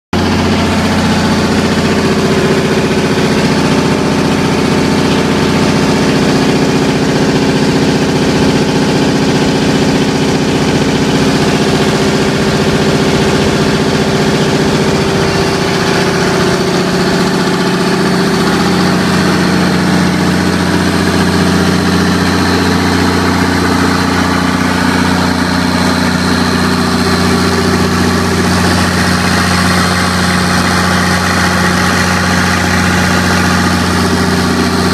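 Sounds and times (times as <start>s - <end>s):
diesel generator droning: 0.1s - 34.9s.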